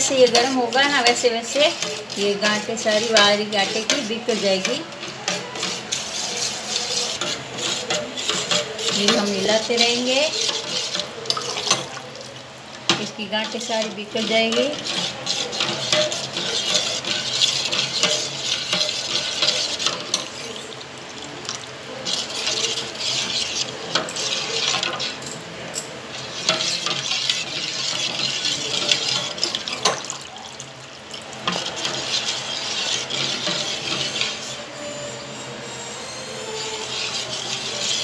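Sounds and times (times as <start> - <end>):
ladle stirring liquid in a pot: 0.0 - 34.8, 36.8 - 38.0.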